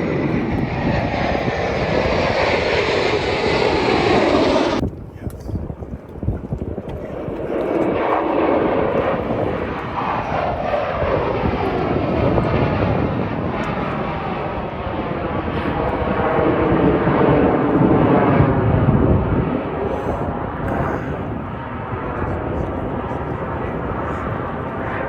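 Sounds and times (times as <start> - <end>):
aircraft engine roar passing overhead: 0.0 - 25.0.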